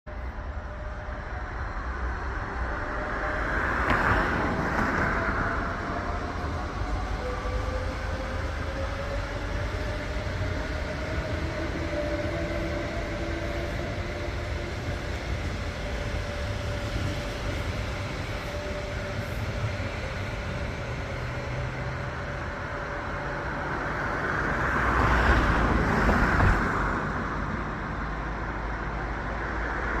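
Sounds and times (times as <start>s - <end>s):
wheels rumbling on rail: 0.1s - 30.0s.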